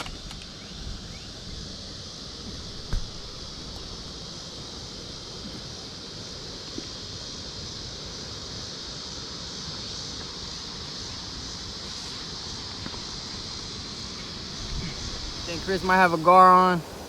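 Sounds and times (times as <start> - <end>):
wind rumbling on microphone: 0.0 - 9.1, 9.7 - 17.0
high-pitched insect drone: 0.0 - 17.0.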